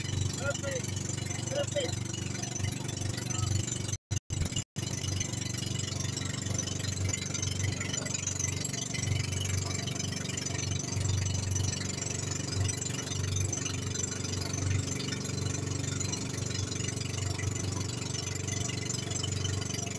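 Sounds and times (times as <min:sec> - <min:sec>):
boat engine humming: 0:00.0 - 0:19.9
wind: 0:00.0 - 0:19.9.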